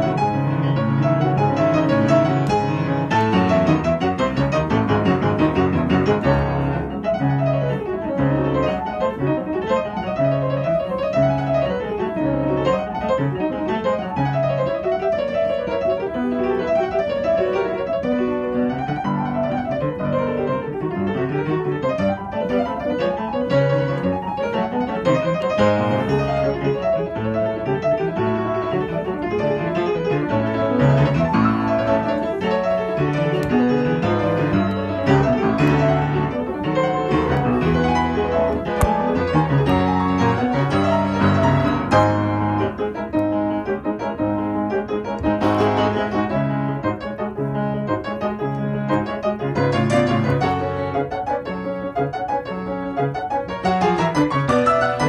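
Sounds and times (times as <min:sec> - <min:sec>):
classical piano piece: 0:00.0 - 0:55.0.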